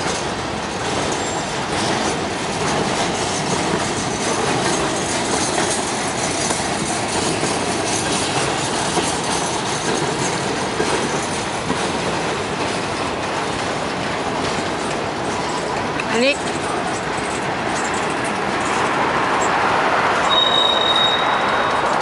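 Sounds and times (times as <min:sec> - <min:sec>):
train wheels rumbling on rails: 0:00.0 - 0:22.0
wheels clacking over rail joints: 0:00.0 - 0:22.0.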